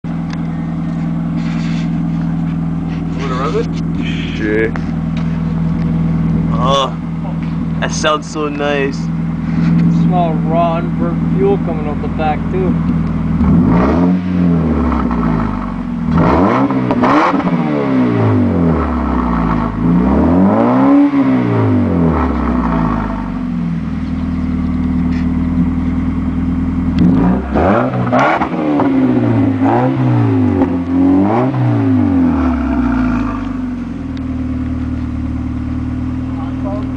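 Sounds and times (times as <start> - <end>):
car engine revving and idling: 0.0 - 36.9.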